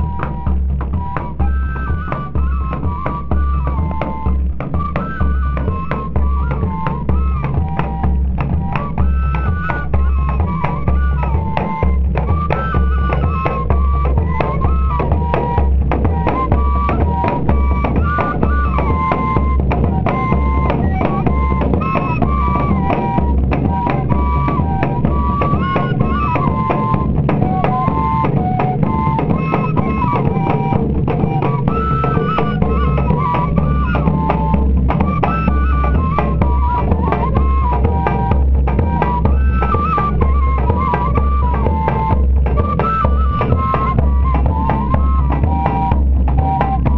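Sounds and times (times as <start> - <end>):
fife melody: 0.0 - 46.9
percussion: 0.0 - 46.9.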